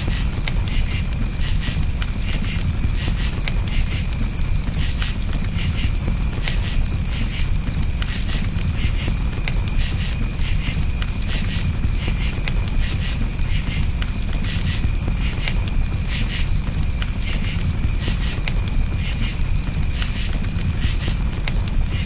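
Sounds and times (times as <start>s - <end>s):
campfire crackling and popping: 0.0s - 22.0s
crickets chirping: 0.0s - 22.0s
low rumble from fire: 0.0s - 22.0s.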